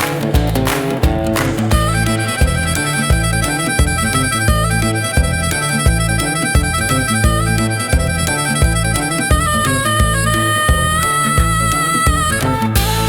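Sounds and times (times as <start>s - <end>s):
blues harmonica melody: 0.0s - 13.0s
low beat: 0.0s - 13.0s.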